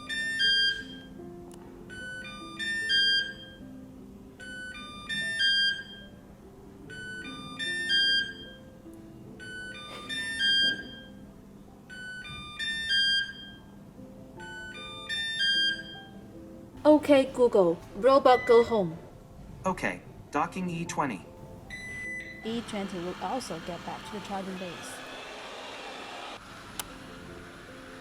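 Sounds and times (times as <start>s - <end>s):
soft background music: 0.0s - 25.1s, 26.4s - 28.0s.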